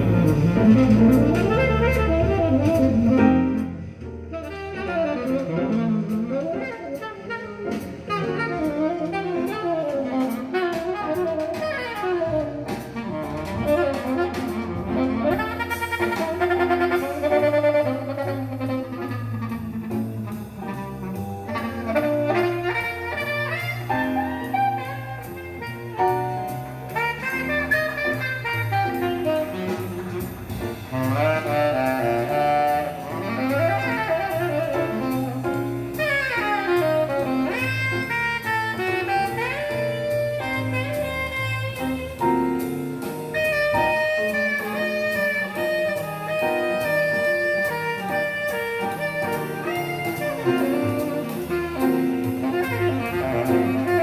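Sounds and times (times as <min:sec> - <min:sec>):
double bass: 0:00.0 - 0:54.0
saxophone: 0:00.0 - 0:54.0.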